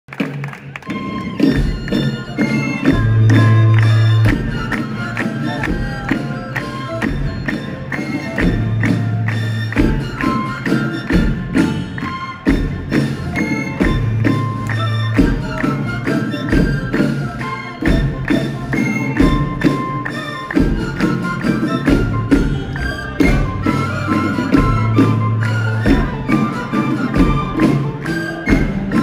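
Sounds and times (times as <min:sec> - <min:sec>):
drums beating steady rhythm: 0:00.1 - 0:29.0
pitched melody: 0:00.8 - 0:29.0.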